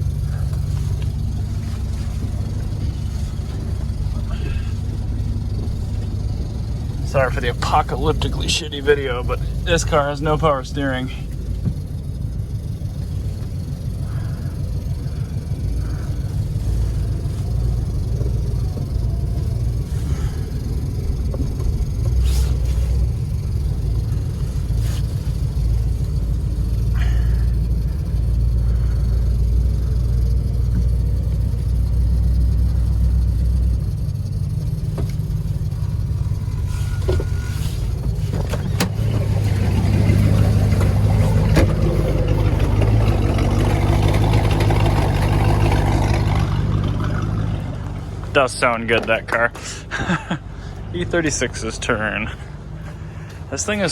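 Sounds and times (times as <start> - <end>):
car engine running at low speed: 0.0 - 53.9.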